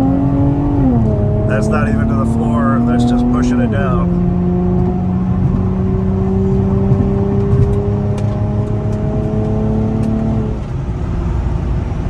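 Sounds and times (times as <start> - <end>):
car engine pulling hard: 0.0 - 12.0.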